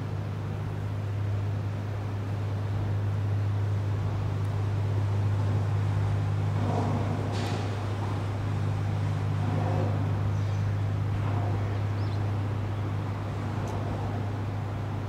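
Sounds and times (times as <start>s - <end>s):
ship engine drone: 0.0s - 15.0s.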